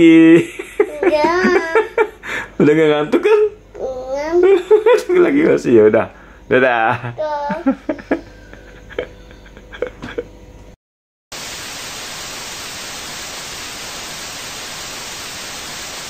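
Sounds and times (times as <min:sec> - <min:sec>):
television static hiss: 0:00.0 - 0:09.1, 0:11.4 - 0:16.0.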